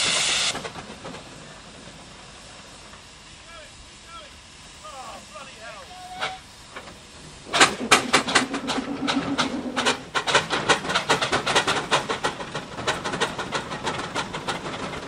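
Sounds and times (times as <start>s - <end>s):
steam engine exhaust chuffing: 0.0s - 15.0s.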